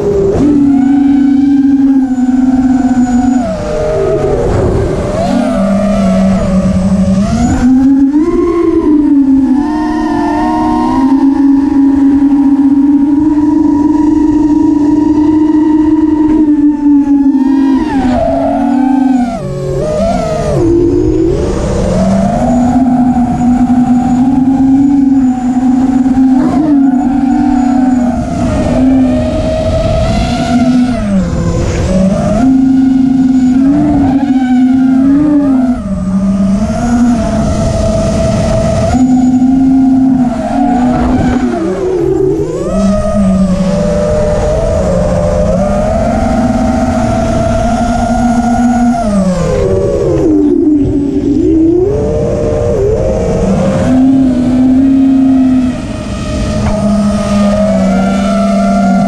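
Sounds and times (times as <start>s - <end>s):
quadcopter motors whining: 0.0s - 59.0s
wind noise: 0.0s - 59.0s.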